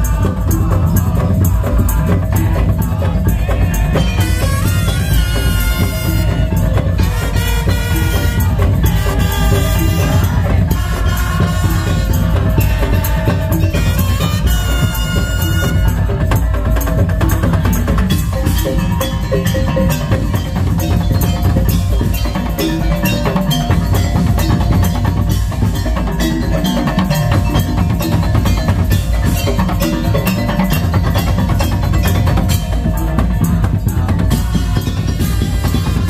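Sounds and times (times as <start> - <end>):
street percussion ensemble: 0.0 - 36.0.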